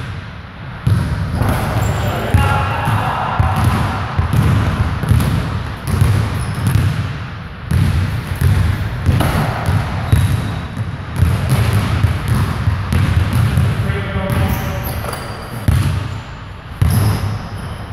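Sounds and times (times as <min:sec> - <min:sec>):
basketballs bouncing on wood floor: 0:00.8 - 0:16.2, 0:16.8 - 0:17.8.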